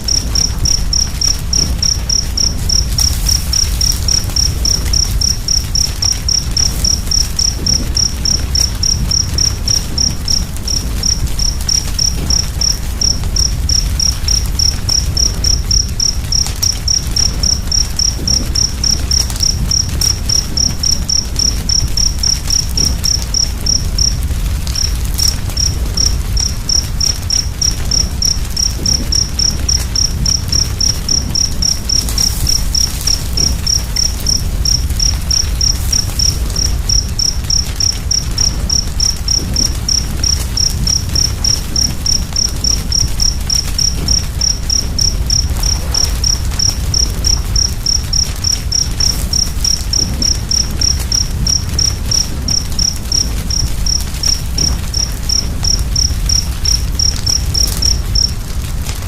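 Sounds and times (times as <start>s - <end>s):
cricket chirping: 0.0s - 59.0s
fire crackling and rumbling: 0.0s - 59.0s.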